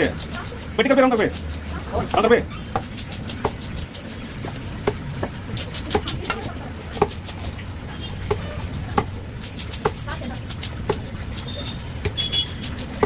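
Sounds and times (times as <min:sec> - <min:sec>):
cleaver chopping fish: 0:00.0 - 0:13.0.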